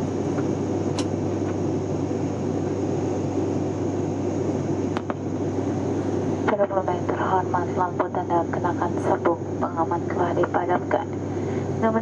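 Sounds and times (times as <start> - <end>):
airliner cabin engine noise: 0.0 - 12.0
steady low hum: 0.0 - 12.0.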